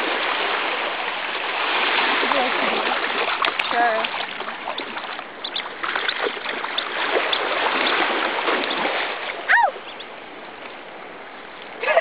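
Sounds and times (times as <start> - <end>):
sea water splashing: 0.0 - 10.8.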